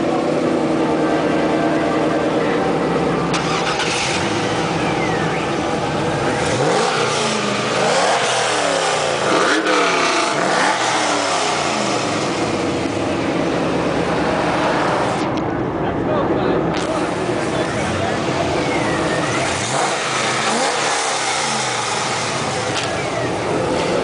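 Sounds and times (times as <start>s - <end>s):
car engines idling and revving: 0.0s - 24.0s.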